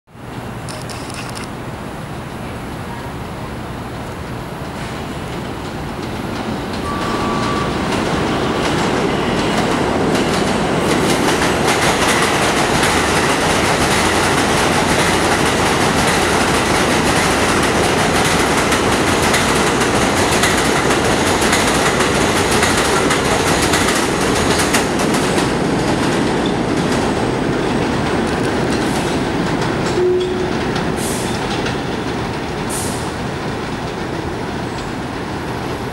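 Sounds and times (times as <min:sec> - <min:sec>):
subway train passing at speed: 0:00.1 - 0:35.9
steel wheels rushing on rail: 0:00.2 - 0:35.9
train clattering over track: 0:04.7 - 0:35.9.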